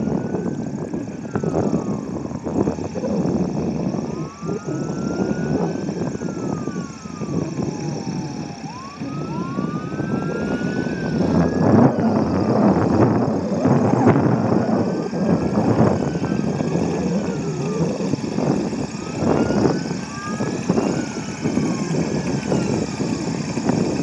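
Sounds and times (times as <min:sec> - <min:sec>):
wailing tone: 0:00.0 - 0:23.2
propeller plane engine running: 0:00.0 - 0:24.0
wind buffeting microphone: 0:00.0 - 0:24.0.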